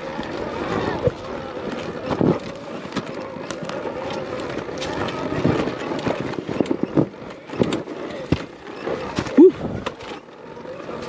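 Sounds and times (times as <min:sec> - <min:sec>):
bike knocking over rocks: 0:00.0 - 0:10.2
tyre and wind noise: 0:00.0 - 0:11.0.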